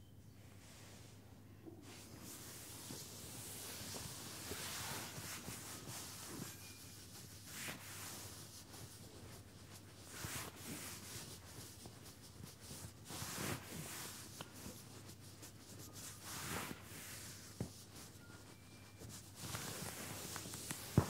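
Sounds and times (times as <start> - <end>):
hands swishing on leggings fabric: 1.8 - 21.0.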